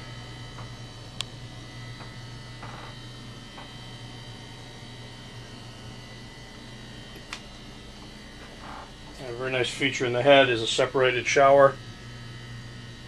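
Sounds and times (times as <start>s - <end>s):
air conditioning humming: 0.0s - 13.0s.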